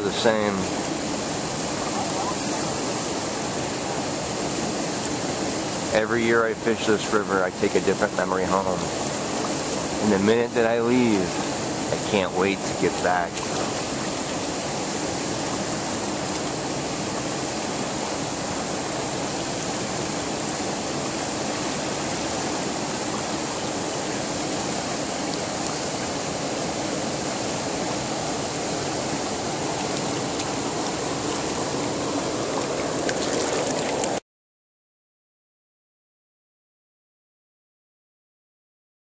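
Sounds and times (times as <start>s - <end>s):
river water pouring over a weir: 0.0s - 34.2s
water churning through rapids: 0.0s - 34.2s.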